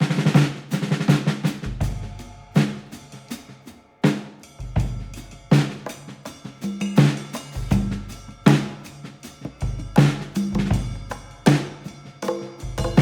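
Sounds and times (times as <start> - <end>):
drum-led background music: 0.0 - 13.0.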